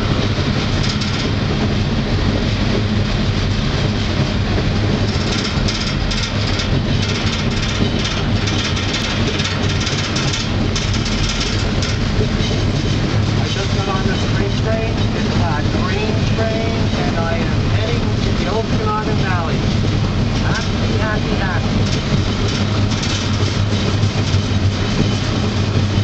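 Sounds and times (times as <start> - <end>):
freight car rumbling and rattling: 0.0 - 26.0.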